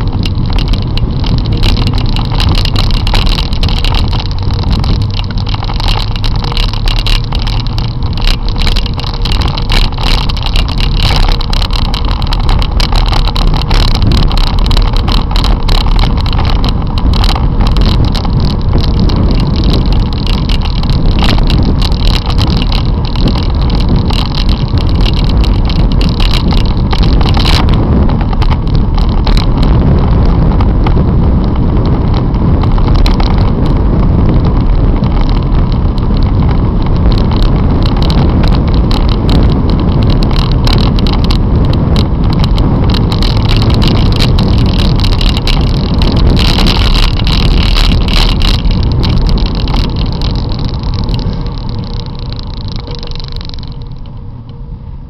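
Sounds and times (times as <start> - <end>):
rattling clicks: 0.0 - 29.8, 34.3 - 54.6
wind and road rush: 0.0 - 55.0.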